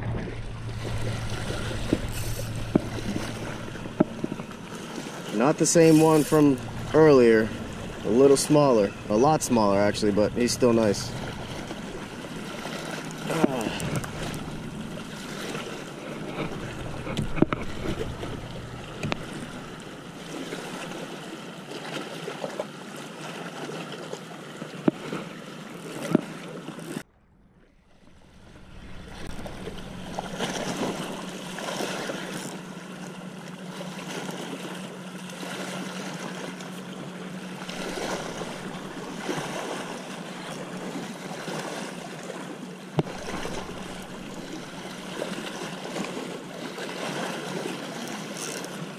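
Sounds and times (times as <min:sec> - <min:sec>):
rushing water: 0:00.0 - 0:48.9
wind: 0:00.0 - 0:48.9.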